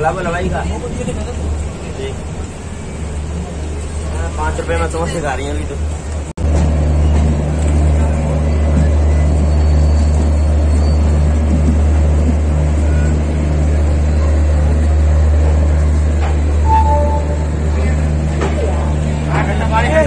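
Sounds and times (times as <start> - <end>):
train rumble inside coach: 0.0 - 20.0.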